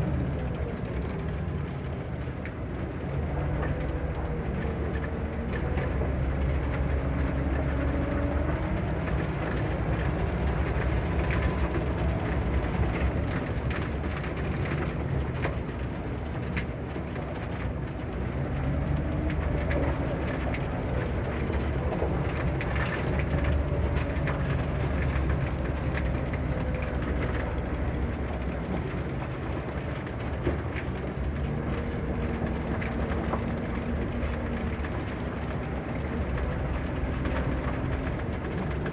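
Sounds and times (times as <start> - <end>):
bus diesel engine rumble: 0.0 - 38.9.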